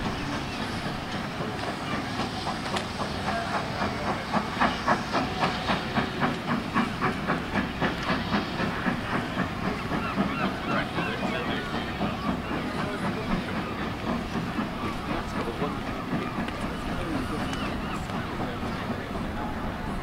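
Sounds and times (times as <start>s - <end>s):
steam hissing: 0.0s - 20.0s
steam locomotive chuffing: 0.0s - 20.0s.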